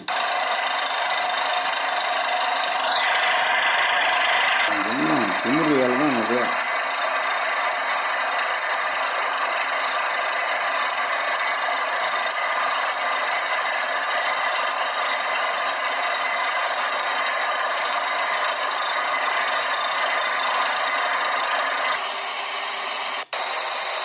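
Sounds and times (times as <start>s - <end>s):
drilling rig running: 0.0s - 24.0s.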